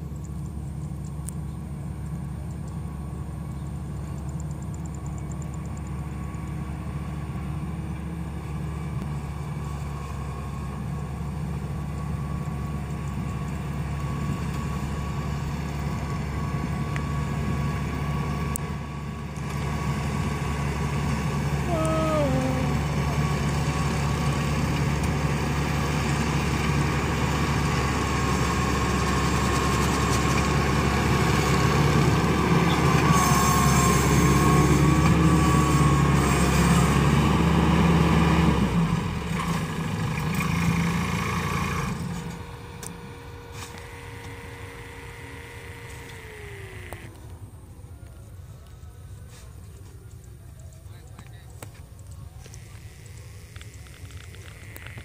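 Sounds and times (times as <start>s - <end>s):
combine harvester droning: 0.0s - 49.8s, 52.0s - 55.0s.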